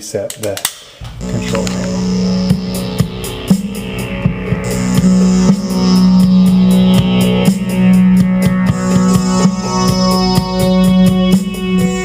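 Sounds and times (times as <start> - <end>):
electric guitar with drums: 1.0 - 12.0.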